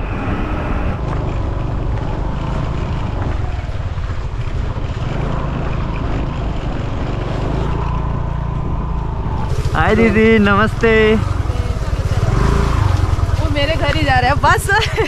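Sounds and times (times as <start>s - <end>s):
scooter running: 0.0s - 15.0s
wind buffeting microphone: 0.0s - 15.0s.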